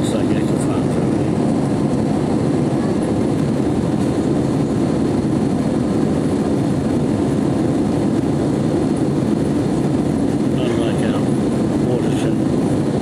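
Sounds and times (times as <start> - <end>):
jet cabin engine drone: 0.0 - 13.0.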